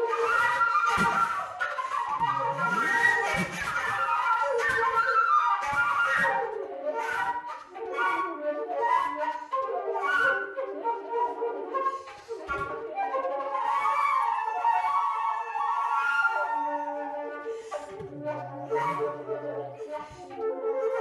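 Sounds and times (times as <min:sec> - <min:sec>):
flute duet: 0:00.0 - 0:21.0.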